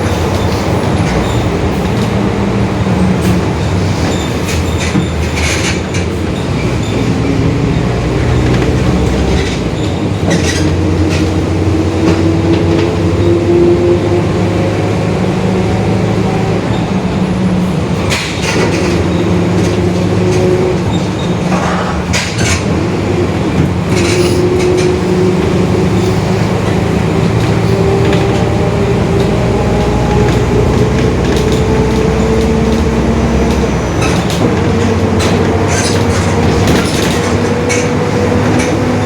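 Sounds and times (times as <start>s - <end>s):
diesel bus engine running: 0.0s - 39.0s
rattles over bumps: 0.0s - 39.0s.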